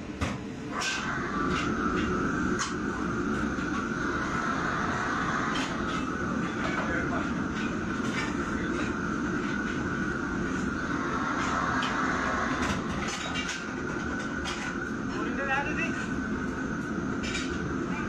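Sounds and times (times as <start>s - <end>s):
wok burners and extraction roar: 0.0s - 18.0s.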